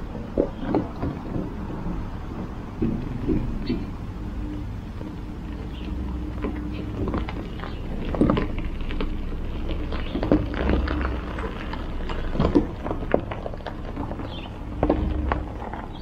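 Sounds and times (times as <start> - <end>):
truck engine running: 0.0 - 16.0
tyres crunching on gravel: 0.0 - 16.0.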